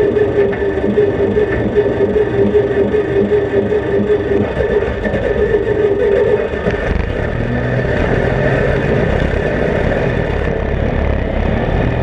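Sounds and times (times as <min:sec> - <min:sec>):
race vehicle engine rumbling: 0:00.0 - 0:12.0.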